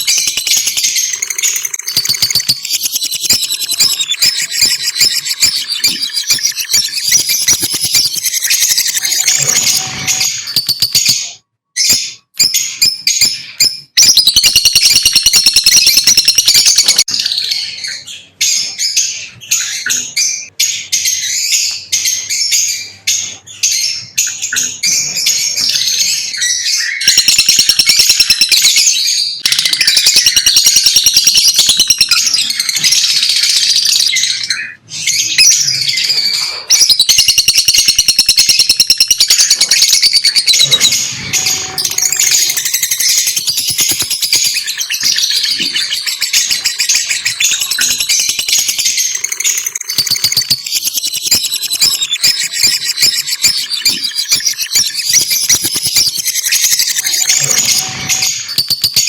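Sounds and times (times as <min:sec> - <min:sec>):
lovebirds chirping and chattering: 0:00.0 - 0:59.0.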